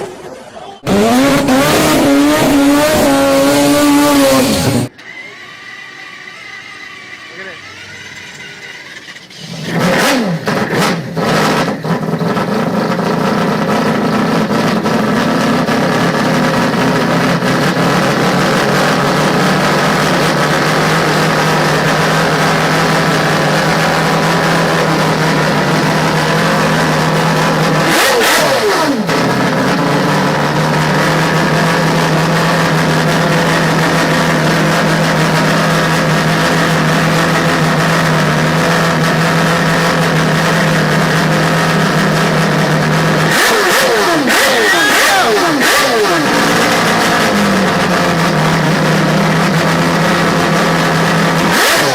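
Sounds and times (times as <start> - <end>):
rotary engine at high revs: 0.8 - 51.9.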